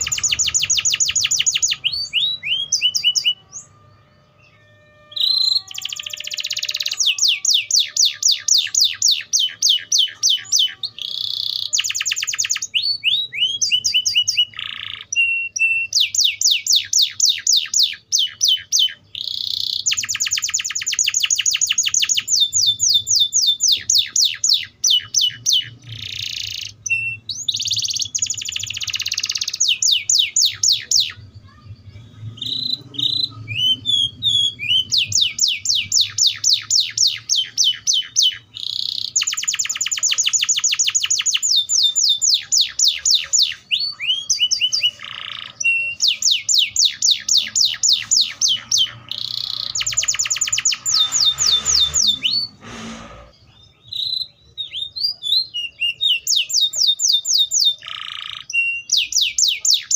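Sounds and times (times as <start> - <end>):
bird chirps: 0.0 - 59.9
canary singing trills: 0.0 - 59.9.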